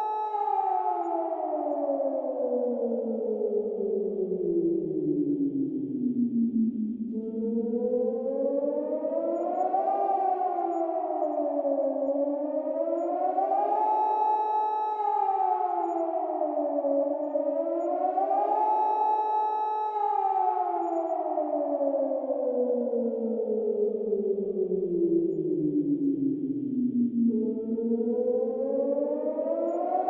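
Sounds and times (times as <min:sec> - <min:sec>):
warning siren wailing: 0:00.0 - 0:30.0.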